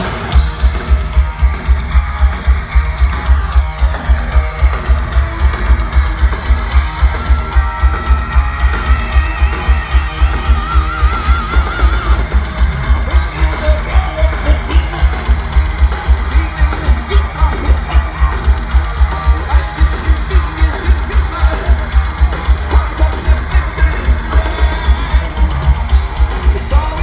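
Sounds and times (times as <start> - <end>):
distorted electric guitar riff: 0.0 - 27.0.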